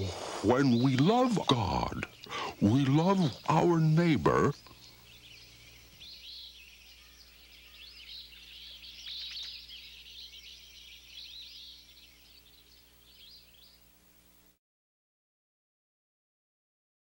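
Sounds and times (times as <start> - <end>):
faint low hum: 0.0 - 14.6
songbirds chirping: 0.0 - 14.6.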